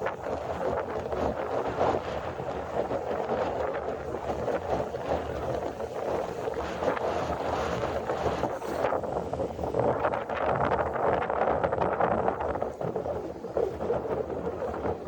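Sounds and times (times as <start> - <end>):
surf washing: 0.0 - 15.0
wind gusting over microphone: 0.0 - 15.0.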